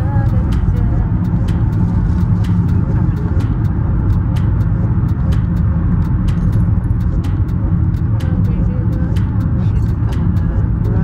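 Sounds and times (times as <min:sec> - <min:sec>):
light ticks: 0:00.0 - 0:11.0
tyre and engine rumble: 0:00.0 - 0:11.0.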